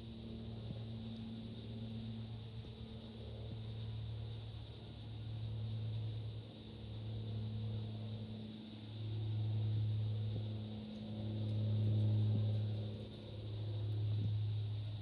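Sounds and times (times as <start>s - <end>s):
droning aircraft engine hum: 0.0s - 15.0s.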